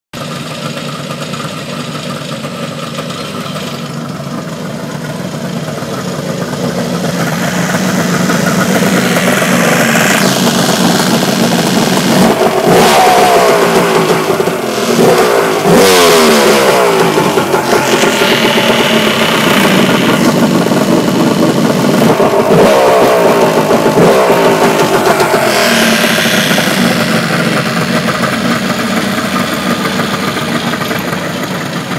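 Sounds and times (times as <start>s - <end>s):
two-stroke engine running: 0.2s - 31.9s.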